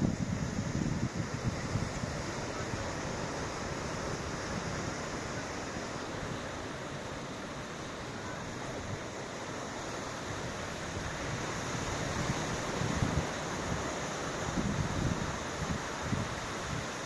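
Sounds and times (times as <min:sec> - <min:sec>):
waves breaking: 0:00.0 - 0:17.0
wind gusts: 0:00.0 - 0:17.0.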